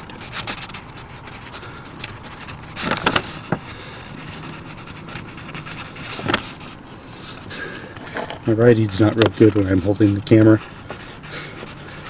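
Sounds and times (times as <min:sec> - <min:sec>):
pen scratching on paper: 0:00.0 - 0:07.6, 0:08.4 - 0:12.0.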